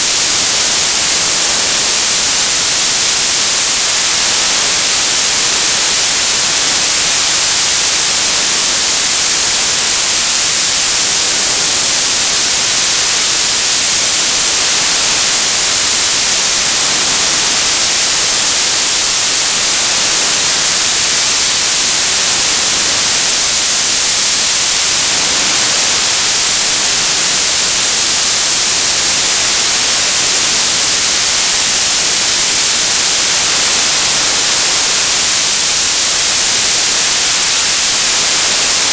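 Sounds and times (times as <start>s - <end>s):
tv static hiss: 0.0s - 38.9s.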